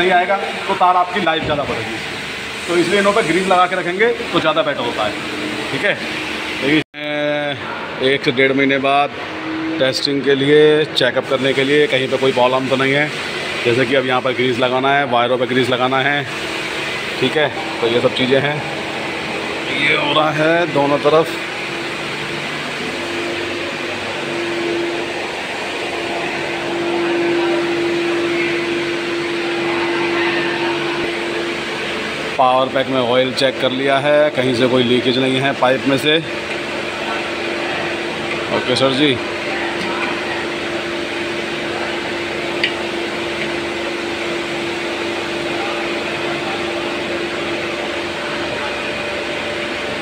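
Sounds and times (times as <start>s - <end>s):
low steady whine: 0.0s - 50.0s
machine hum: 0.0s - 50.0s.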